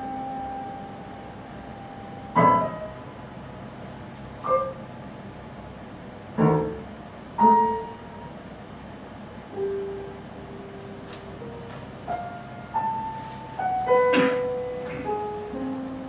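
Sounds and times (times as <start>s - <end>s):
piano notes ringing out: 0.0s - 5.3s, 6.2s - 8.6s, 9.4s - 16.0s.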